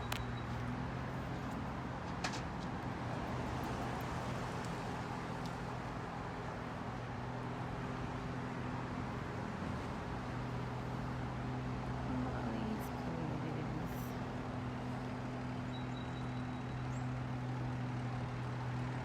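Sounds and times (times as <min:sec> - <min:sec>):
vehicle engine humming: 0:00.0 - 0:06.8, 0:07.5 - 0:19.0
road and wind noise hiss: 0:00.0 - 0:15.7.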